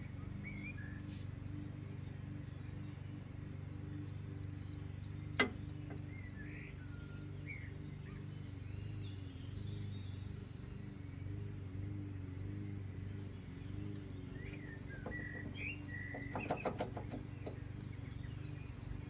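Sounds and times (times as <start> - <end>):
birds chirping: 0.0 - 19.0
low hum: 0.0 - 19.0.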